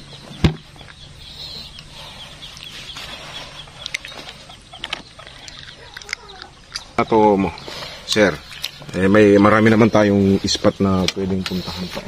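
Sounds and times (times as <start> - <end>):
faint birds calling: 0.0 - 12.0.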